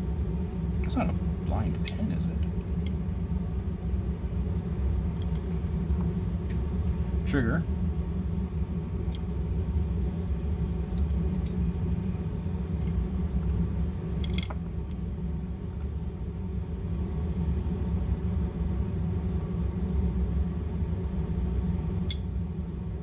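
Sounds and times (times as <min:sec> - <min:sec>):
low workshop hum: 0:00.0 - 0:23.0.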